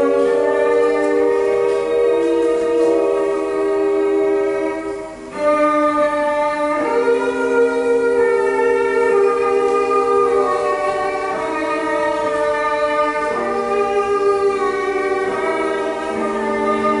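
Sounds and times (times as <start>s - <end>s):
slow bowed string music: 0.0s - 17.0s.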